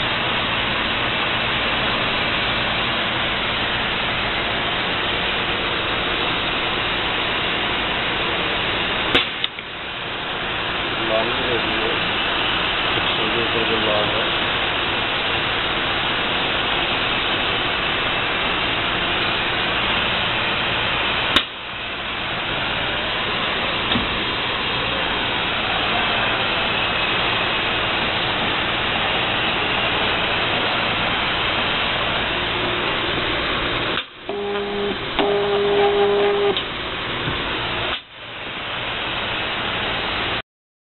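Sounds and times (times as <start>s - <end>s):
machine running: 0.0s - 40.4s.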